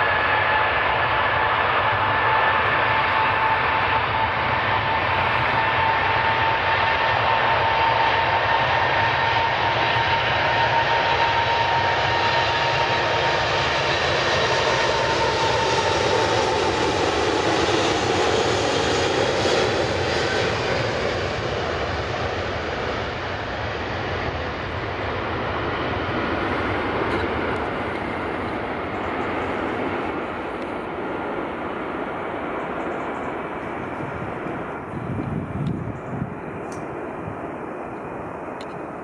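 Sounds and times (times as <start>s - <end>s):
jet engines whining and rushing: 0.0s - 39.0s.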